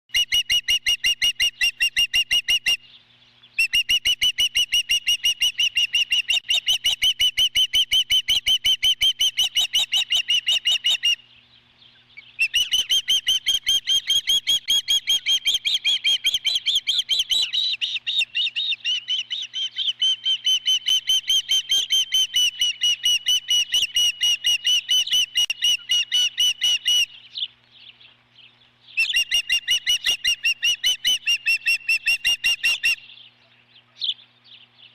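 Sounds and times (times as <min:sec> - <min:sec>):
osprey chirping: 0:00.1 - 0:34.9.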